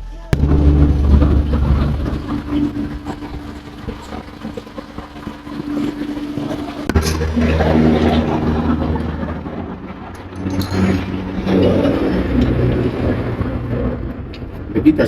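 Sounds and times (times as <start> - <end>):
vehicle engine running: 0.3 - 15.0.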